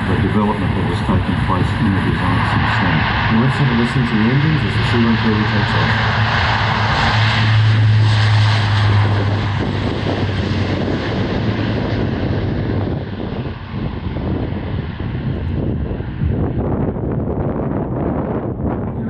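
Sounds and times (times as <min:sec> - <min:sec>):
turboprop aircraft taking off: 0:00.0 - 0:19.0.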